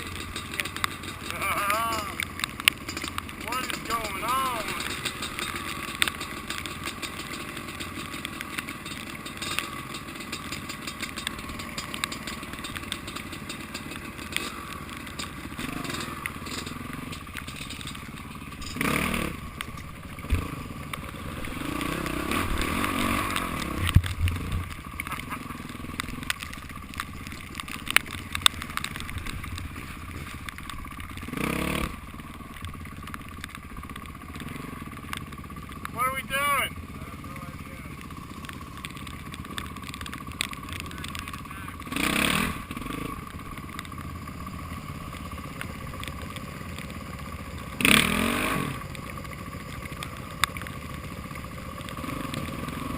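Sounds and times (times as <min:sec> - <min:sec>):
dirt bike engine running: 0:00.0 - 0:52.9.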